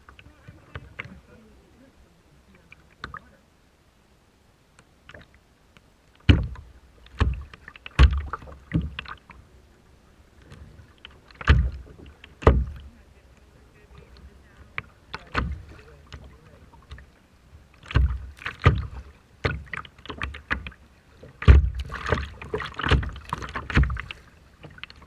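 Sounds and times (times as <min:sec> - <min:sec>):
water slapping against a boat: 0:00.0 - 0:03.4, 0:04.8 - 0:25.0.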